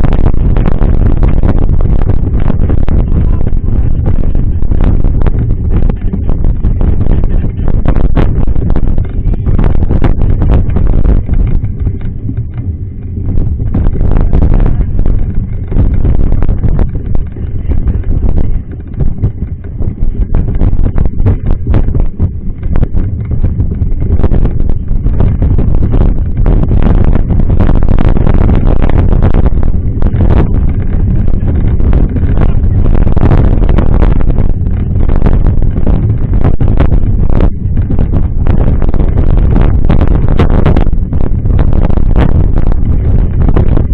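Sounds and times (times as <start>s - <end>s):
bike rattles and knocks: 0.0s - 43.9s
wind buffeting microphone: 0.0s - 43.9s.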